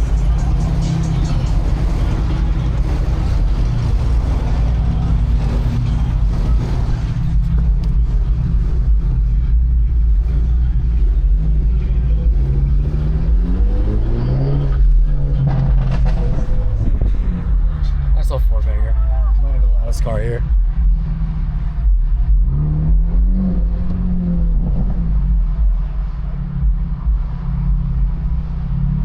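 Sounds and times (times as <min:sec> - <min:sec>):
car engine rumbling and revving: 0:00.0 - 0:29.0.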